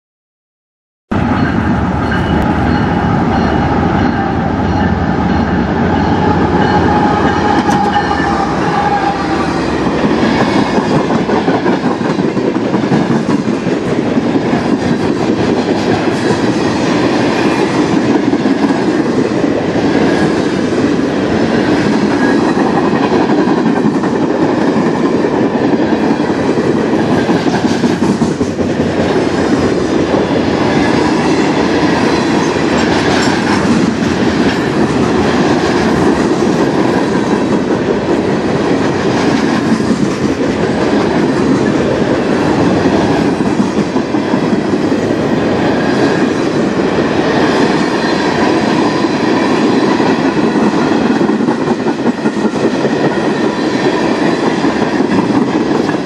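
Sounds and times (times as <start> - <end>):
diesel locomotive engine: 1.1 - 56.0
steel wheels rumbling on rails: 1.1 - 56.0.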